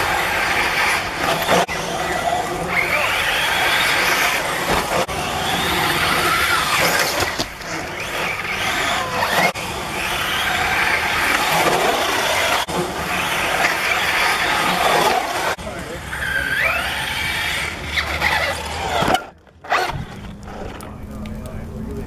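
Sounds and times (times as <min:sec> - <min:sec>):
rc car motor whine: 0:00.0 - 0:22.0
tyres on dirt: 0:00.0 - 0:22.0.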